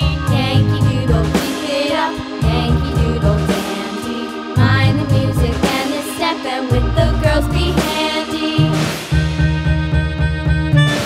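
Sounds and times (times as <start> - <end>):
music with steady bass beat: 0.0 - 11.0.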